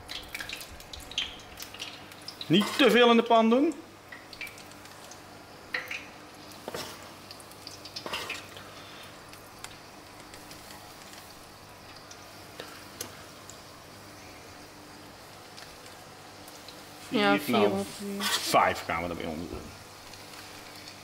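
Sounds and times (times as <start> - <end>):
oil sizzling in a deep fryer: 0.0 - 21.0.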